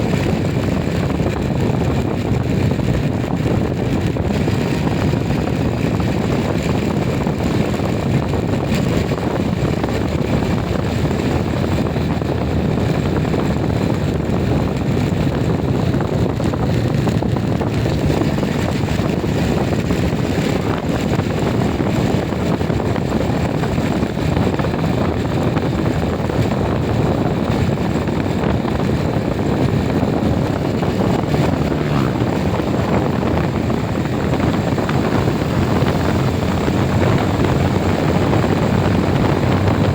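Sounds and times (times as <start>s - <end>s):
vehicle rumble: 0.0s - 39.9s.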